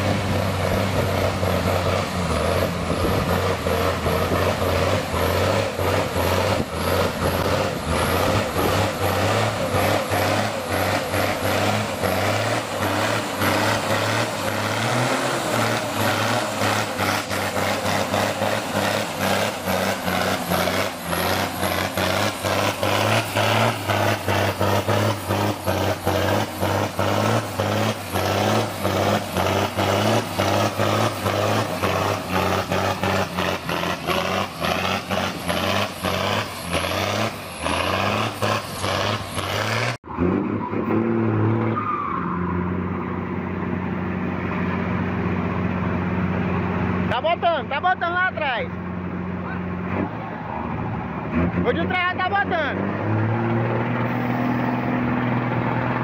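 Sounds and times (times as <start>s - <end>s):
truck engine running under load: 0.0s - 40.1s, 42.7s - 56.0s.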